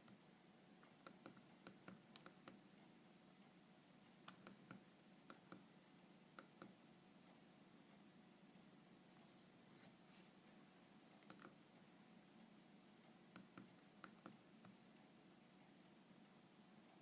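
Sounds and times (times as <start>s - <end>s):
quiet room hum: 0.0s - 17.0s.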